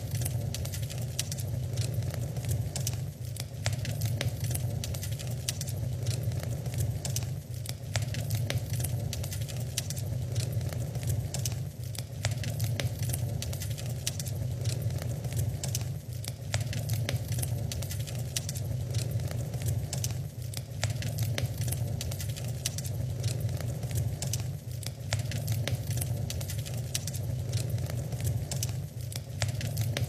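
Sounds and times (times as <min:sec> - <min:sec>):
rumble of flames: 0:00.0 - 0:30.0
wood fire crackling: 0:00.0 - 0:30.0.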